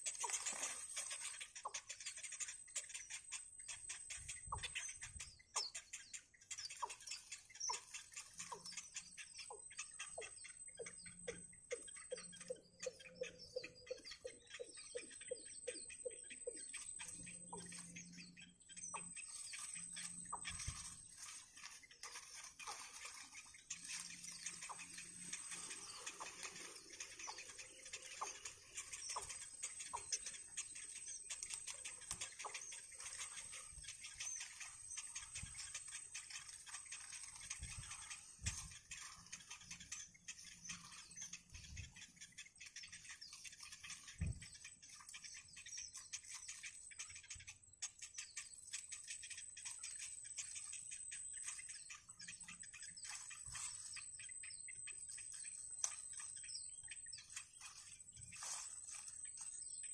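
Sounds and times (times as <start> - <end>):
nestling birds begging calls: 0.0 - 59.9.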